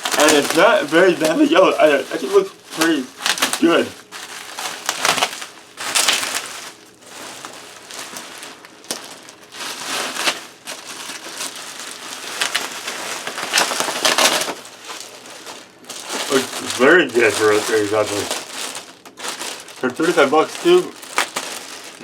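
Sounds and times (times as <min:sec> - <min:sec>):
packing material crinkling: 0:00.0 - 0:22.0.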